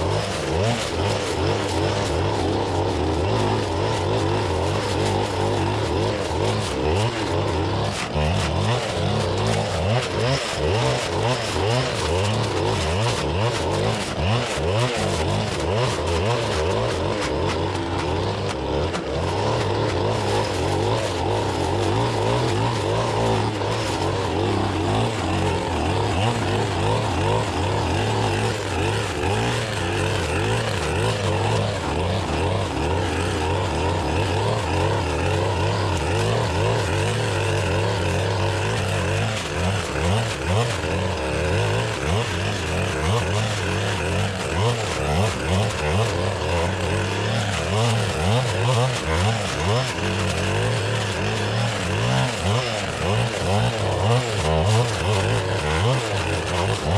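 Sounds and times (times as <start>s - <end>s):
clearing saw cutting brush: 0.0s - 56.9s.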